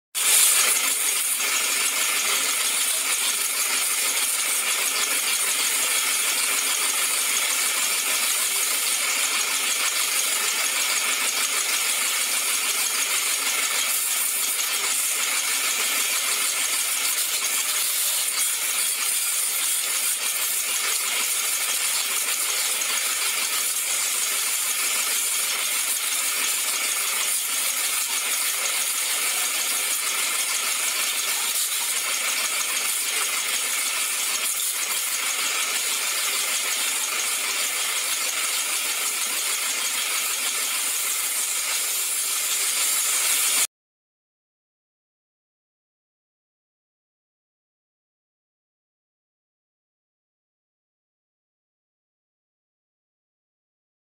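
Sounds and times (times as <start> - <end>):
pressure washer jet spraying: 0.2 - 43.7.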